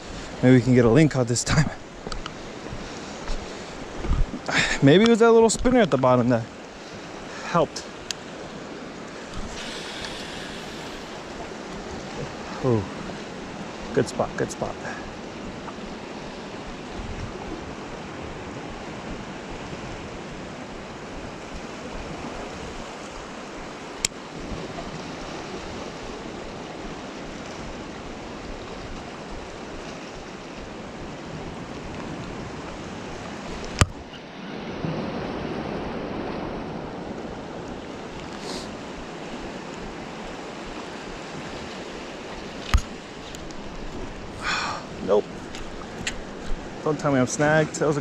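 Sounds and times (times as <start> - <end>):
surf washing against rocks: 0.0 - 48.0.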